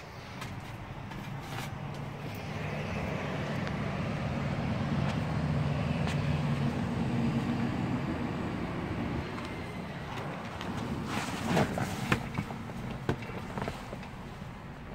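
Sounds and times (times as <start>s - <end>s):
engine low drone: 0.0s - 14.9s.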